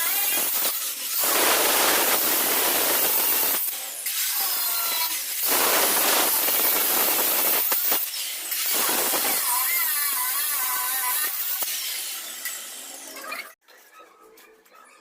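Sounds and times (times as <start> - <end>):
power tool cutting: 0.0 - 13.6.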